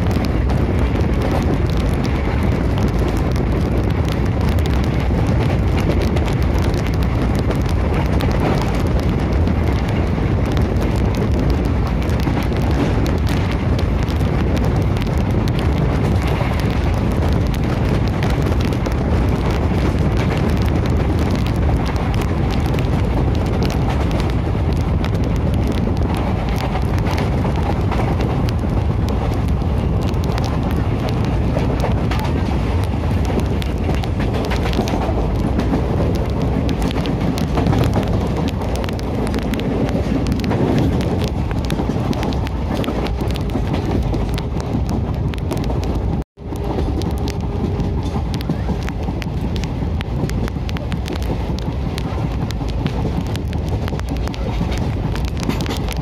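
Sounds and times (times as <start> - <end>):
small clicks and rattles: 0.0 - 56.0
train wheels on track: 0.0 - 56.0.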